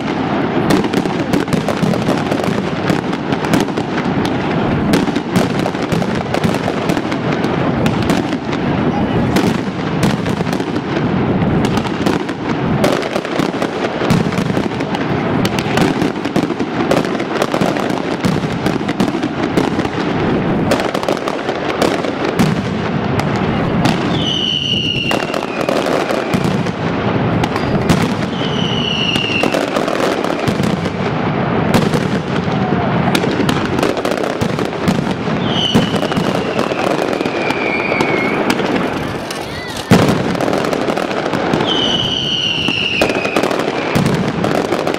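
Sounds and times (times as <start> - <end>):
firecrackers banging rapidly: 0.0 - 44.9.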